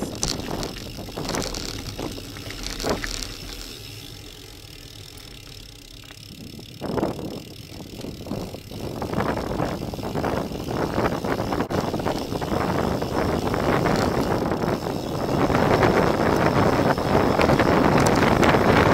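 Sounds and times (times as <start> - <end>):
bike knocking and rattling: 0.0 - 18.9
bike tyres rumbling on gravel: 0.0 - 18.9.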